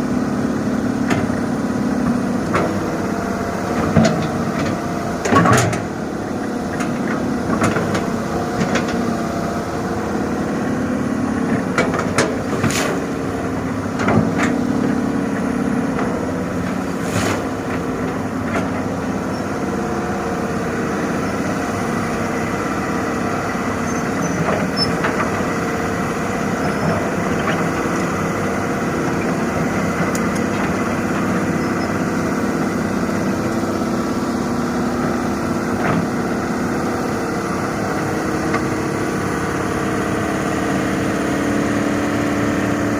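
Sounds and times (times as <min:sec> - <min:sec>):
diesel machinery engine running: 0:00.0 - 0:42.9.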